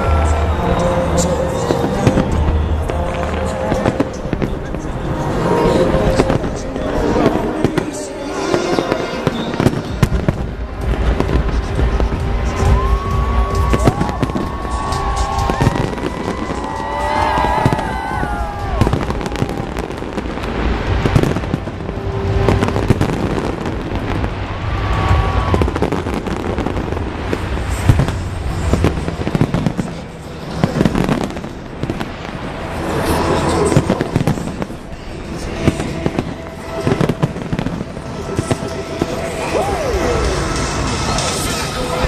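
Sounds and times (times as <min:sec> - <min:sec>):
fireworks crackling: 0:00.0 - 0:42.0.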